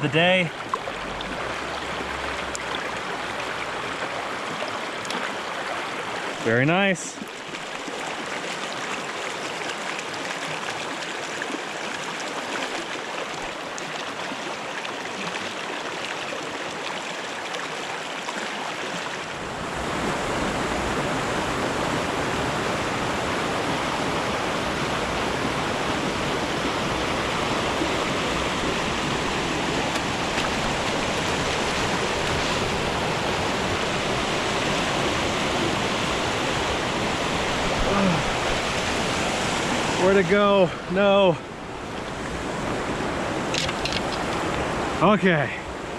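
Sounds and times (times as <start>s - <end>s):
creek water rushing: 0.0s - 45.9s.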